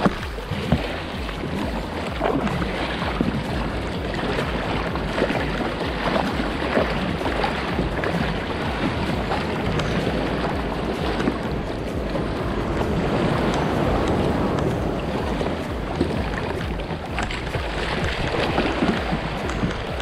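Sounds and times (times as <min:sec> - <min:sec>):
sea water noise: 0:00.0 - 0:20.0
wind buffeting microphone: 0:00.0 - 0:20.0.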